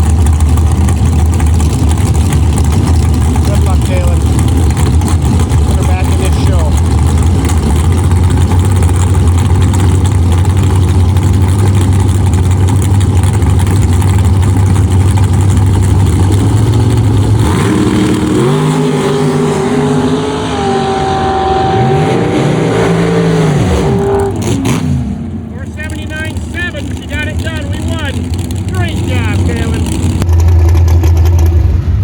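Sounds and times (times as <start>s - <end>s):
racing car engine rumbling: 0.0s - 32.0s.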